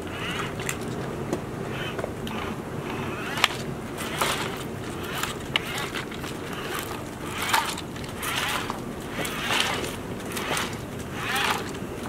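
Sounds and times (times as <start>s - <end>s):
crunching over gravel: 0.0s - 12.0s
sharp plastic clicks: 0.0s - 12.0s
toy electric motors whirring: 0.0s - 12.0s.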